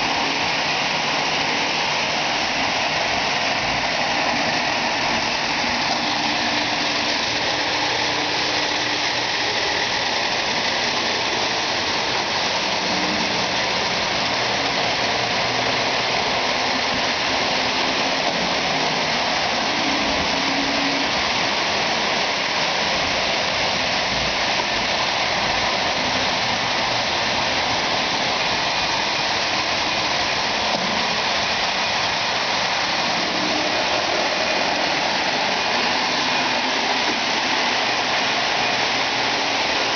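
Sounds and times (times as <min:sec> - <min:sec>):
toy train rolling on track: 0:00.0 - 0:39.9.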